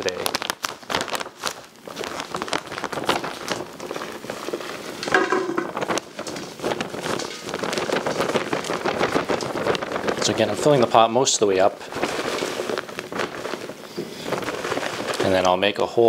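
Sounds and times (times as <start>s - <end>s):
plastic bag rustling: 0.0s - 16.0s
potting soil pouring into pot: 3.0s - 16.0s.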